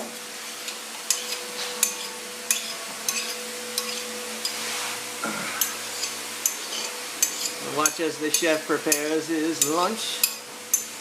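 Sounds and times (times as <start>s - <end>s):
steady low hum: 0.0s - 11.0s
spoon stirring in a bowl: 0.6s - 4.8s, 5.6s - 10.9s.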